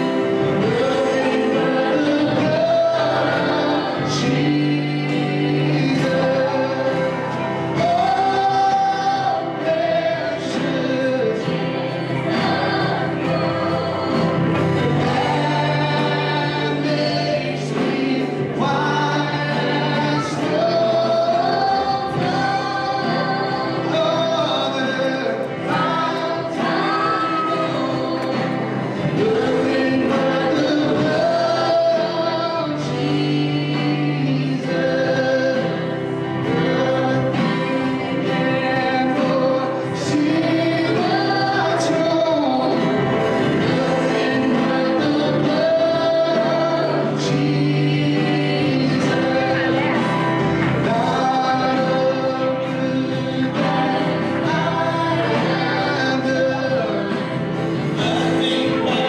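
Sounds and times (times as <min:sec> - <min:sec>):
choir singing gospel music: 0:00.0 - 0:59.0.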